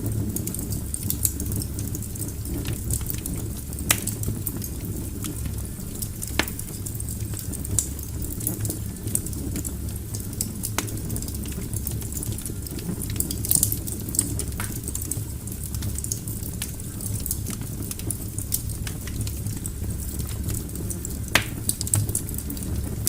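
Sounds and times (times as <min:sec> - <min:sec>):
low rumble of flame: 0:00.0 - 0:23.0
wood logs crackling and popping: 0:00.0 - 0:23.0.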